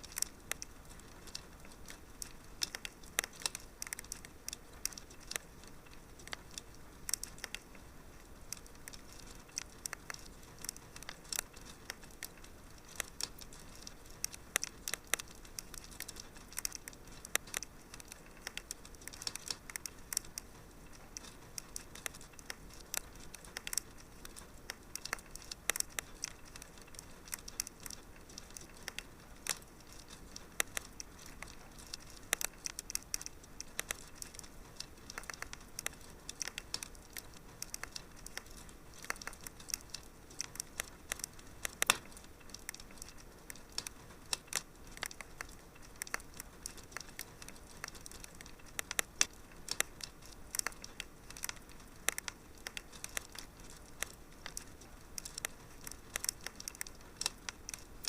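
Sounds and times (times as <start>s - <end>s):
low fire hiss: 0.0s - 58.0s
wood fire crackling and popping: 0.0s - 58.0s.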